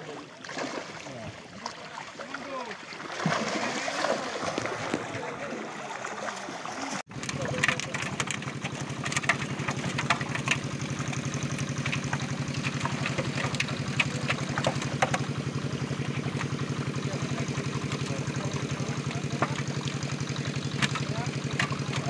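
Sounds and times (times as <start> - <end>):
fish splashing in a net: 0.1 - 22.0
small engine running: 3.3 - 22.0.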